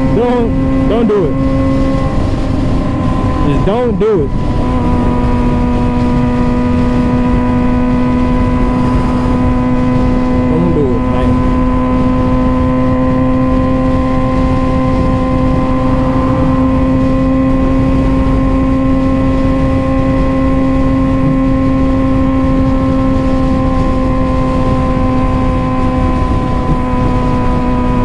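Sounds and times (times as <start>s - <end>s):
motorcycle engine running: 0.0s - 28.0s
wind rush: 0.0s - 28.0s.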